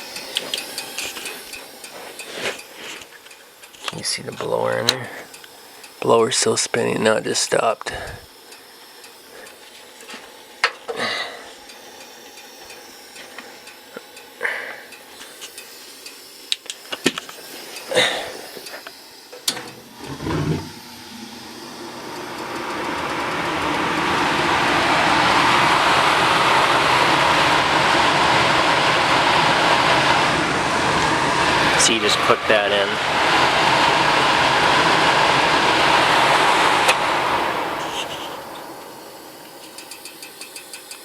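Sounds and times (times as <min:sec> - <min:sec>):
furnace blower rushing air: 0:00.0 - 0:41.0.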